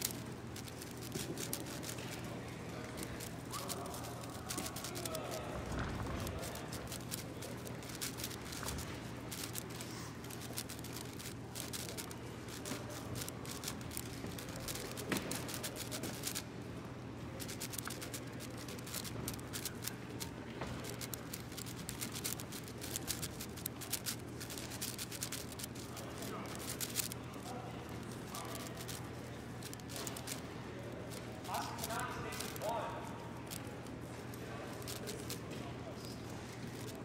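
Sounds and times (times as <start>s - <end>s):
puzzle cube clicking and clacking: 0.0s - 2.2s, 2.9s - 16.5s, 17.4s - 27.4s, 28.0s - 30.4s, 31.1s - 32.8s, 34.8s - 35.4s
low hall hum: 0.0s - 37.0s.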